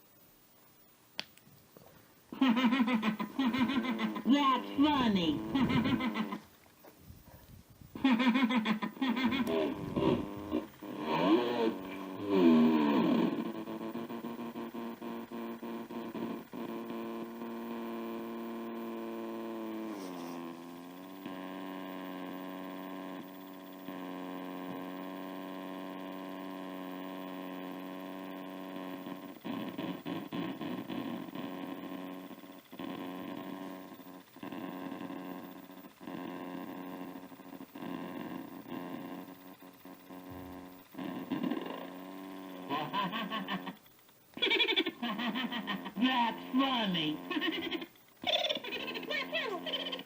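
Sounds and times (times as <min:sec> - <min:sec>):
distorted electronic drone: 0:02.3 - 0:06.5, 0:07.9 - 0:50.0
glitching electronic voice: 0:02.4 - 0:06.5, 0:08.0 - 0:43.8, 0:44.4 - 0:50.0.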